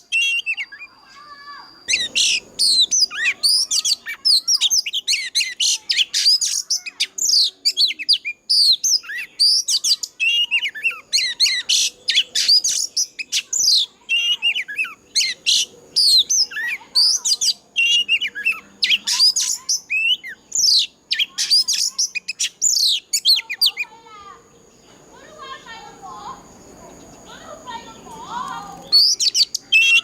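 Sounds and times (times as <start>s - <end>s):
bird singing whistled song: 0.0s - 23.9s, 28.6s - 30.0s.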